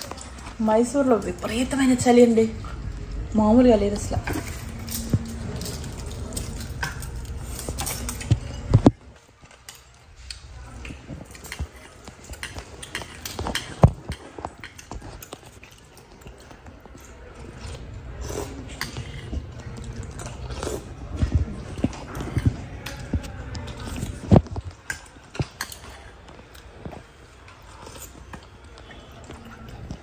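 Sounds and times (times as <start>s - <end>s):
eating sounds: 0.0s - 30.0s
low background hum: 0.0s - 30.0s.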